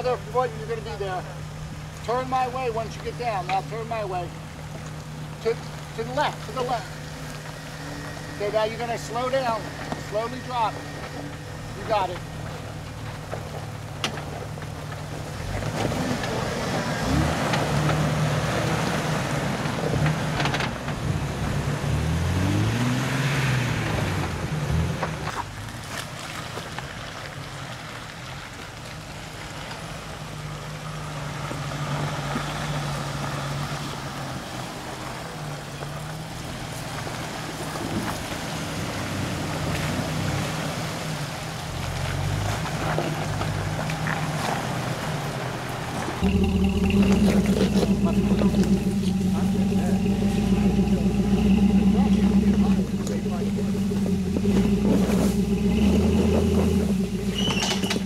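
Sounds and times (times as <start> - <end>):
engine running and revving: 0.0 - 58.0.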